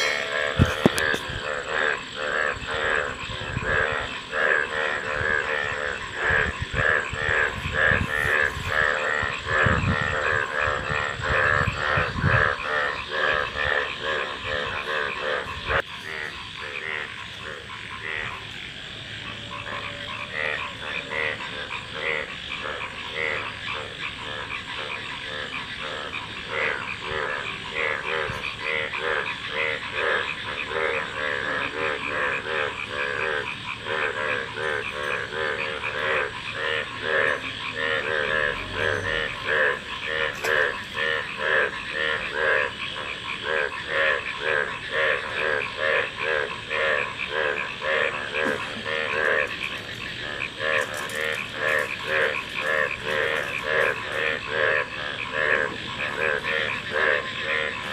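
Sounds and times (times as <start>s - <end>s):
frogs croaking in chorus: 0.0s - 57.9s.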